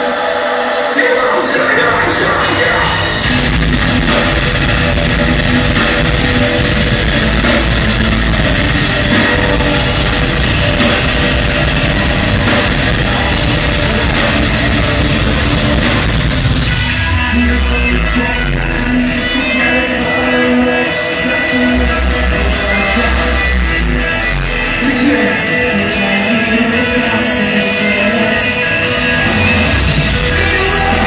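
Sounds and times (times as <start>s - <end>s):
distorted electric guitars: 0.0s - 31.0s
drum kit: 0.0s - 31.0s.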